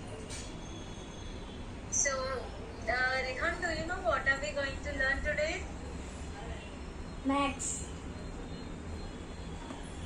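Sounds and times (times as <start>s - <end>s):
low background hum and hiss: 0.0s - 10.0s.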